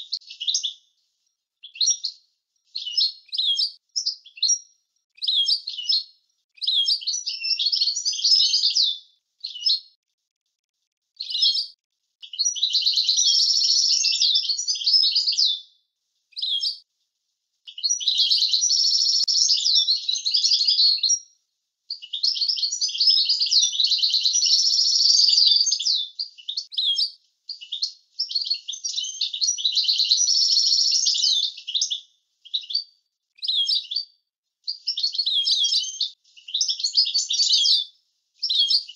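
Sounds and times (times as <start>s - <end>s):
goldfinch twittering song: 0.0s - 0.8s, 1.6s - 9.8s, 11.2s - 15.6s, 16.4s - 16.8s, 17.7s - 21.2s, 21.9s - 34.1s, 34.7s - 38.9s.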